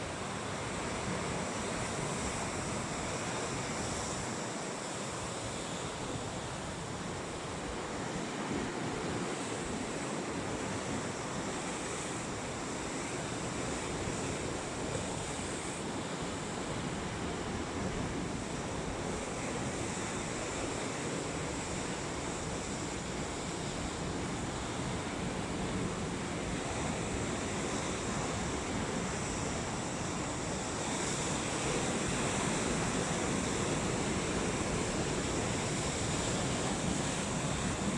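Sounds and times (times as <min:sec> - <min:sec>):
wind: 0:00.0 - 0:37.9.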